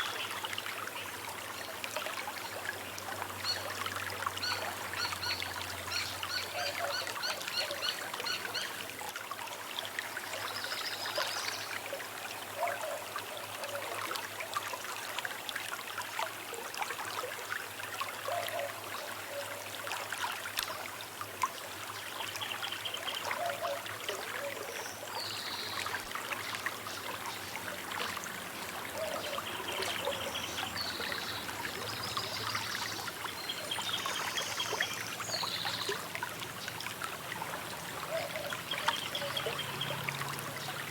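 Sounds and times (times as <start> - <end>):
small river trickling: 0.0 - 40.9.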